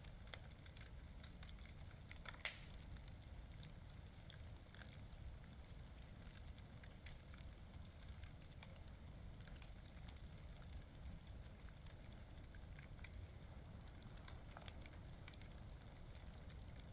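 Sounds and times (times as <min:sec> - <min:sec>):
bonfire crackling and popping: 0:00.0 - 0:16.9.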